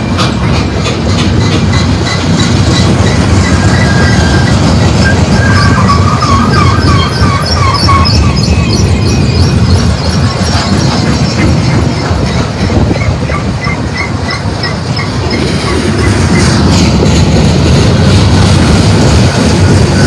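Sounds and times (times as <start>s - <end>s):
freight cars clanking: 0.0s - 20.0s
train wheels rumbling on rail: 0.0s - 20.0s.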